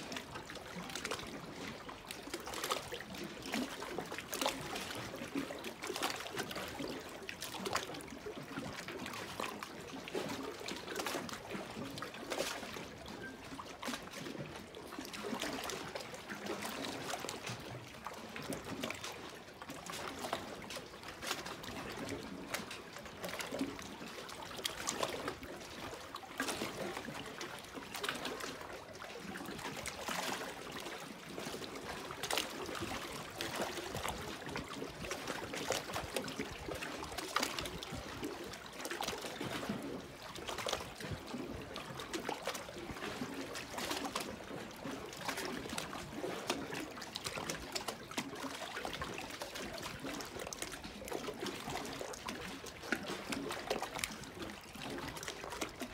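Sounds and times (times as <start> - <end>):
waves lapping against boulders: 0.0 - 55.9.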